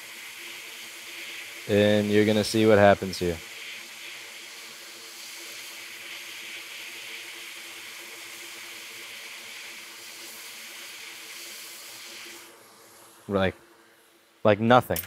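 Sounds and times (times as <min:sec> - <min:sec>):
hot air blower hissing: 0:00.0 - 0:14.1.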